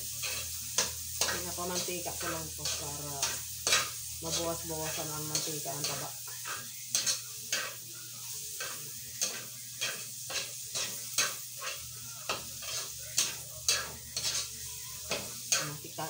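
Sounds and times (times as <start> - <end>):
metal spatula scraping a pan: 0.0 - 16.0
pork fat sizzling in a wok: 0.0 - 16.0.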